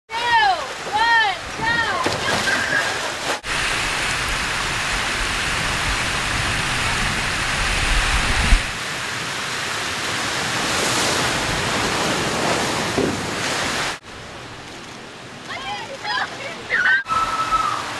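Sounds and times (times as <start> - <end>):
water rushing down a slide: 0.4 - 14.0, 16.7 - 17.9.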